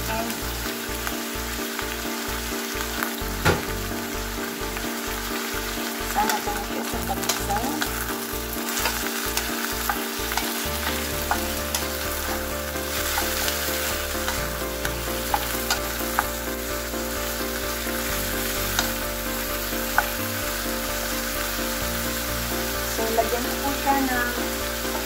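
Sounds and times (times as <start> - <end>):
vegetables sizzling in hot oil: 0.0 - 25.0
wooden spatula stirring: 5.0 - 25.0.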